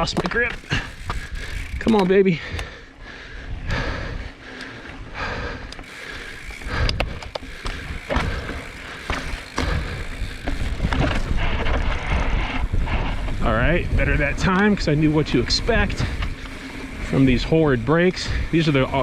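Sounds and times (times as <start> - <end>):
bike rattling over bumps: 0.0 - 19.0
bike tyres on dirt and gravel: 0.0 - 19.0
wind buffeting microphone: 0.0 - 19.0.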